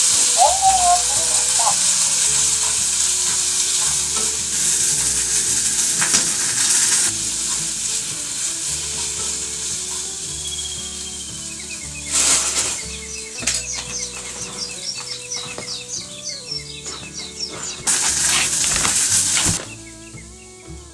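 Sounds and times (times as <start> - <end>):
noodles sizzling in a pan: 0.0 - 19.8.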